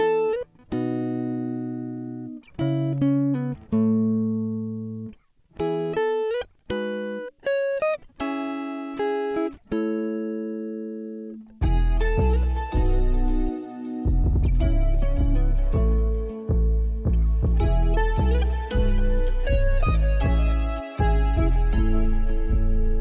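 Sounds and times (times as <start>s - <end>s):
plucked guitar melody: 0.0s - 23.0s.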